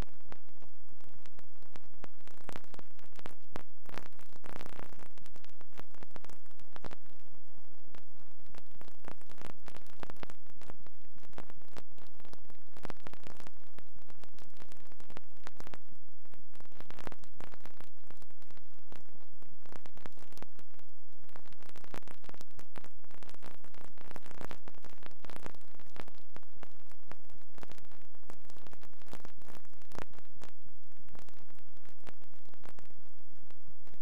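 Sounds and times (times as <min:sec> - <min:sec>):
crackles and pops: 0:00.0 - 0:34.0
film soundtrack hiss and static: 0:00.0 - 0:34.0.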